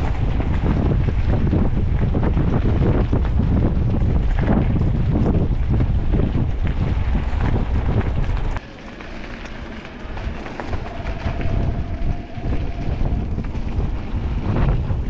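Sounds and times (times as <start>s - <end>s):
tyre and trail noise: 0.0s - 15.0s
wind buffeting microphone: 0.0s - 15.0s.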